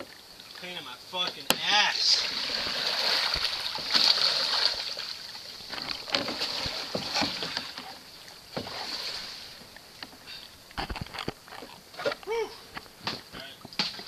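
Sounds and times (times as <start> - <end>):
paddle splashing water: 0.0 - 14.0.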